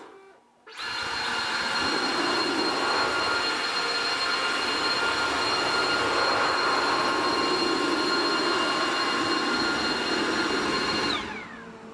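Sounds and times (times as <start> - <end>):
blower motor whining: 0.0 - 11.9.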